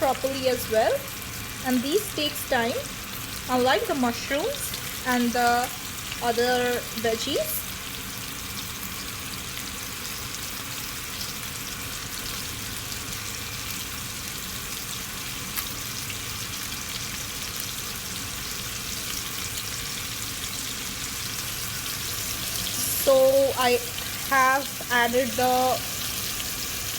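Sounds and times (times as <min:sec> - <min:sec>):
chicken frying in oil: 0:00.0 - 0:26.9.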